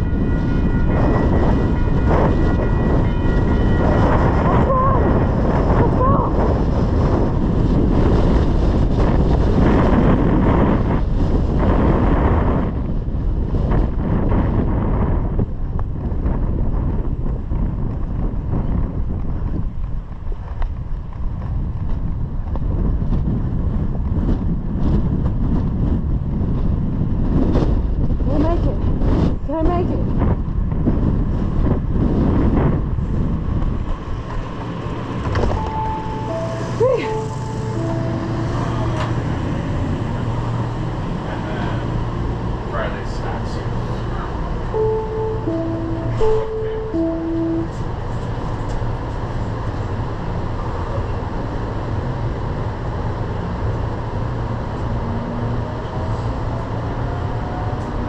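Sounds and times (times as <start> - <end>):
train low rumble: 0.0 - 58.0
vehicle noise: 0.0 - 58.0
wind on microphone: 0.0 - 58.0.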